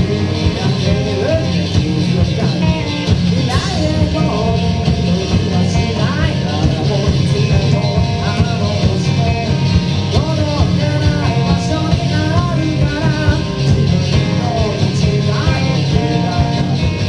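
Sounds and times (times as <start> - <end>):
person singing: 0.0 - 17.0
rock band playing: 0.0 - 17.0.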